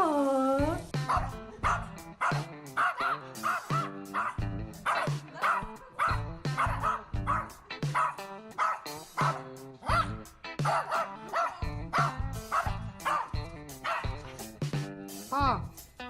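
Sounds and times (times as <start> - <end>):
background music with a beat: 0.6 - 16.0
dog barking and yipping: 1.0 - 14.5.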